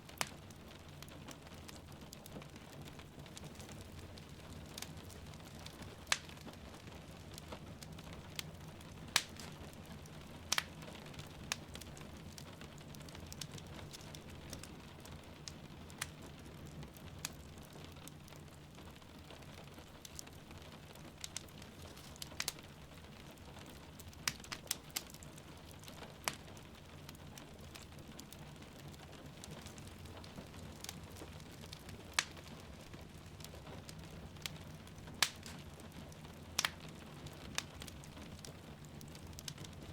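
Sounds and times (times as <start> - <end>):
soft rain: 0.0 - 39.9
wood fire crackling and popping: 0.0 - 39.9.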